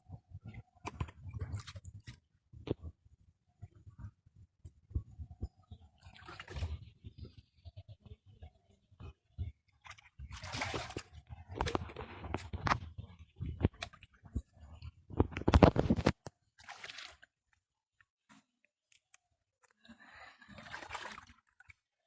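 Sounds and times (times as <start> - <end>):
water splashing and sloshing: 0.1 - 3.0, 3.6 - 8.0, 9.0 - 17.6, 19.7 - 22.0.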